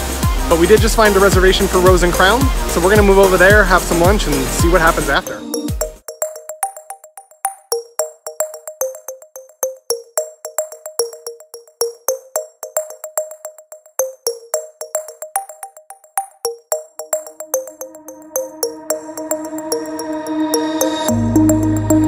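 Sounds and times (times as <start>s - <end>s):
drum-machine beat: 0.0s - 22.0s
plucked synthesizer notes: 0.4s - 22.0s.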